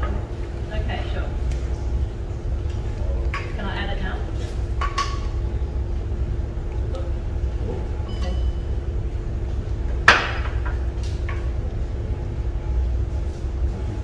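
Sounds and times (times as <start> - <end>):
gas stove rumble: 0.0 - 14.0.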